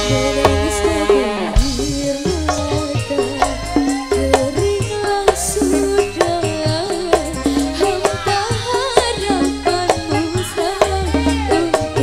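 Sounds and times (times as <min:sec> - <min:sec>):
deep bass notes: 0:00.0 - 0:12.0
gliding melody line: 0:00.0 - 0:12.0
hand drum beating: 0:01.6 - 0:12.0.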